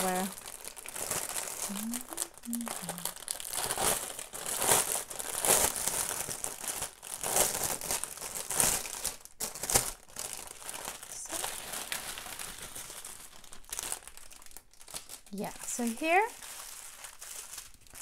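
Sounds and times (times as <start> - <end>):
packets rustling: 0.0 - 18.0
plastic bag crinkling: 0.0 - 18.0.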